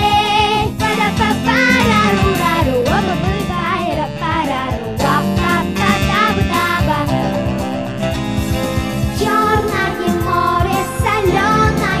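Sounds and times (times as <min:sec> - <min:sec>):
girl singing pop song: 0:00.0 - 0:07.5, 0:09.1 - 0:12.0
backing track with steady beat: 0:00.0 - 0:12.0.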